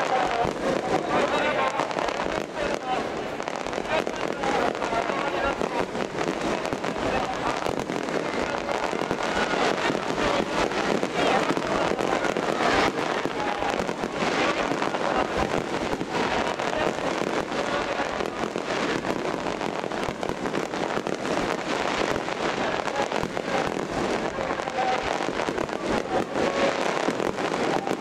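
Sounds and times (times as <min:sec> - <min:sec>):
firework shells crackling: 0:00.0 - 0:28.0.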